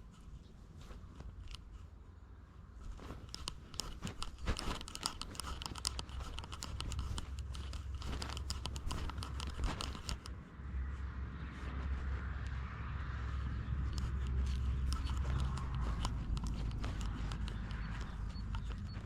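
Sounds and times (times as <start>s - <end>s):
low rumble of camera movement: 0.0s - 19.0s
scratching and crackling rustle: 0.0s - 19.0s.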